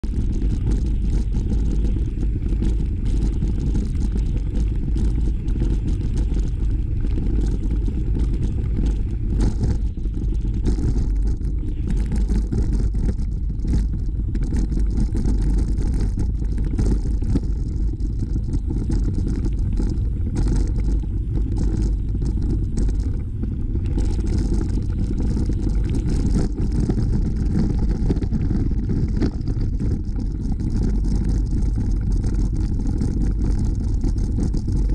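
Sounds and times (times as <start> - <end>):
bike rattling over gravel: 0.0 - 34.9.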